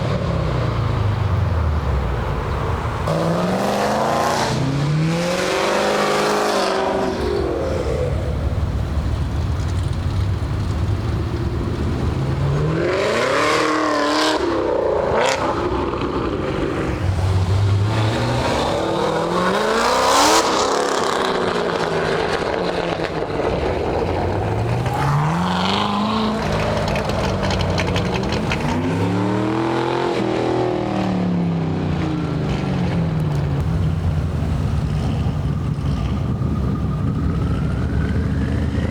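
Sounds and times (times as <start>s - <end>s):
car engines revving past: 0.0s - 38.9s.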